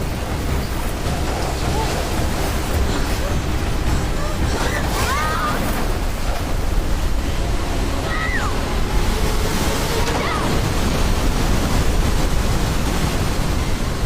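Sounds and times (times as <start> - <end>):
heavily falling water: 0.0 - 14.0.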